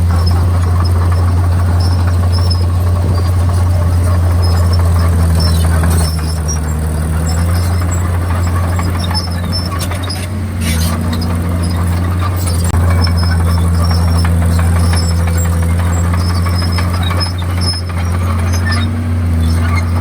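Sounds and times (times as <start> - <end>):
bulldozer diesel engine droning: 0.0 - 20.0
short high squeaks: 0.0 - 20.0.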